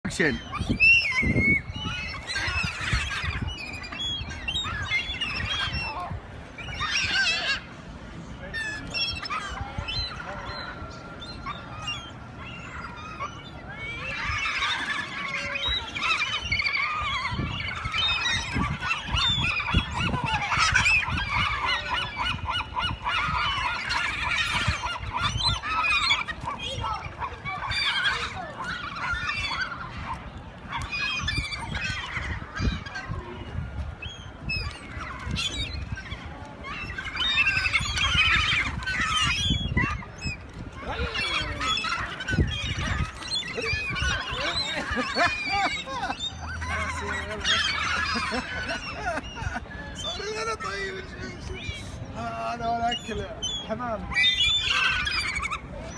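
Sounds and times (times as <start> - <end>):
gulls squawking: 0.0 - 55.9.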